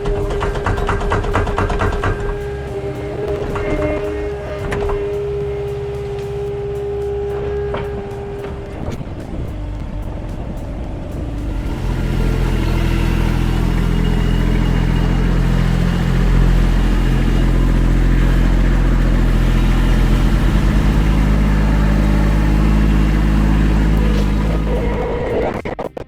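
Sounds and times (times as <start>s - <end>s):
heavy machinery engine running: 0.0s - 25.8s.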